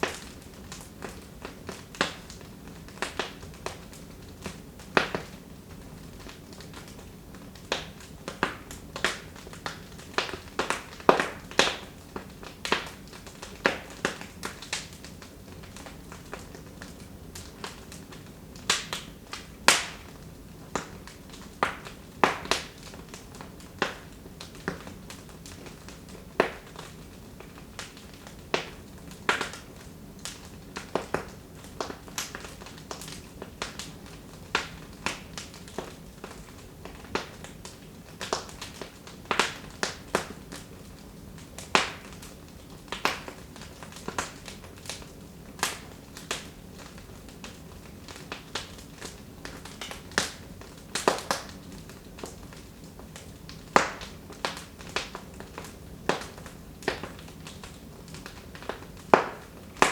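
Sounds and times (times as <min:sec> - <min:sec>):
hiss of burning fire: 0:00.0 - 0:59.9
wood fire crackling: 0:00.0 - 0:59.9.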